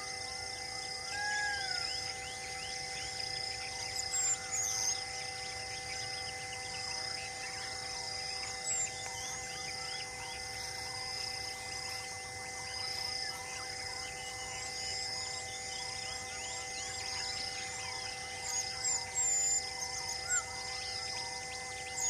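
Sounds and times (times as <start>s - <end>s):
high insect drone: 0.0s - 22.0s
birds chirping: 1.5s - 22.0s.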